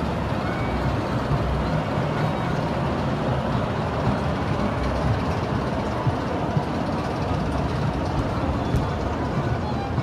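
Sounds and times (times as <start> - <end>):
small train rumbling on rails: 0.0 - 10.0.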